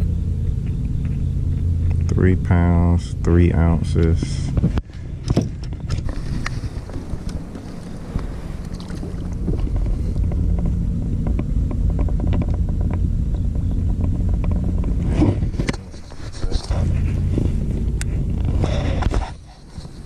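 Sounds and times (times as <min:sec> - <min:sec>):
wind buffeting microphone: 0:03.6 - 0:20.0.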